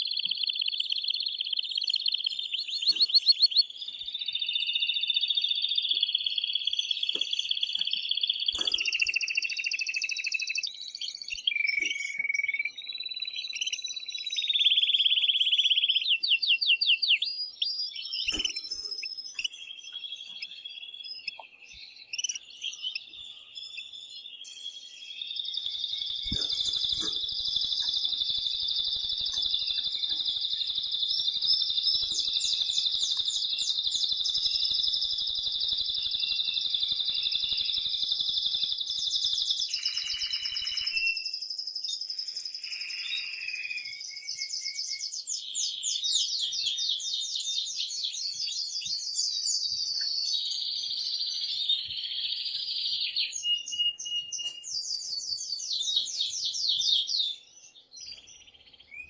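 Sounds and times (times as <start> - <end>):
canary singing trills and chirps: 0.0 - 59.0.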